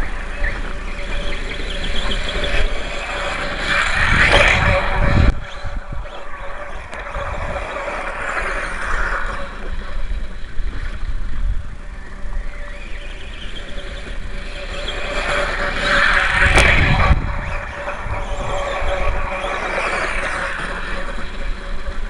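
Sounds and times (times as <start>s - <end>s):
rc motorcycle on gravel: 0.0s - 22.0s.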